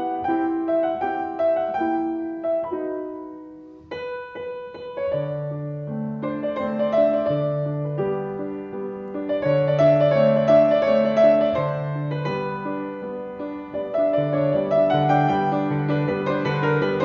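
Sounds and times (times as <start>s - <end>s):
keyboard melody: 0.0s - 17.0s.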